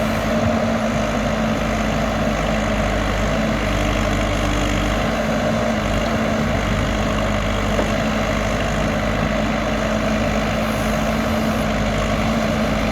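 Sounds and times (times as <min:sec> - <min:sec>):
heavy diesel engine running: 0:00.0 - 0:12.9.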